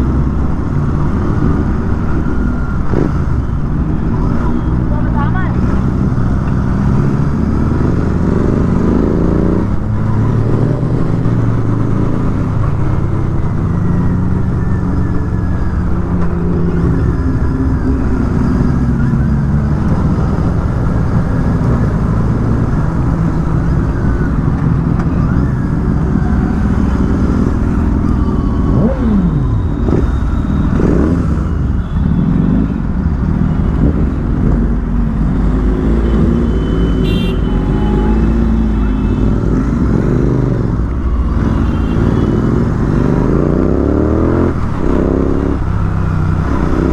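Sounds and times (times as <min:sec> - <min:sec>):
motorcycle engine revving: 0:00.0 - 0:24.2, 0:25.2 - 0:46.9
vehicles passing: 0:00.0 - 0:46.9
wind and road rumble: 0:00.0 - 0:46.9.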